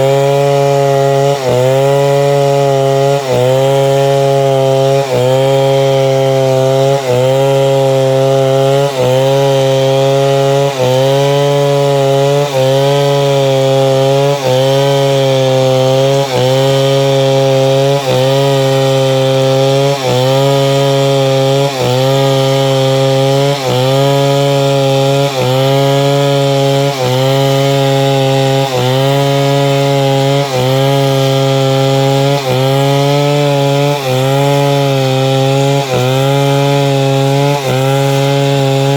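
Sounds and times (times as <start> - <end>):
chainsaw ripping timber: 0.0 - 38.9.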